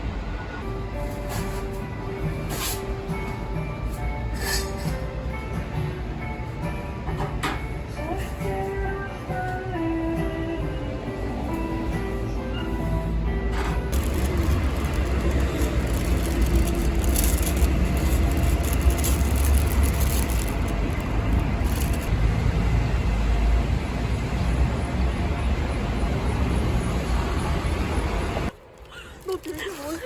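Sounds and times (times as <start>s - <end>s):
vehicle engine and road noise: 0.0s - 30.0s.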